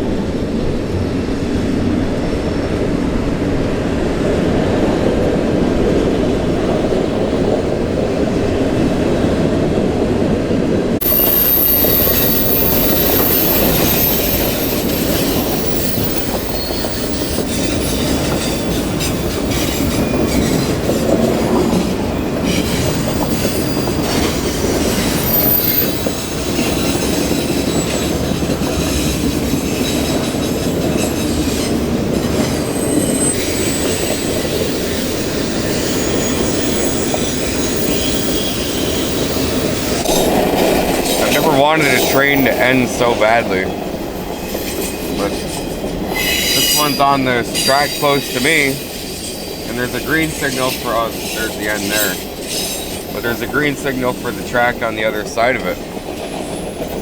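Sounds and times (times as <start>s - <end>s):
train wheels rumbling on rail: 0.0s - 57.0s
high-pitched wheel squeals: 11.0s - 57.0s.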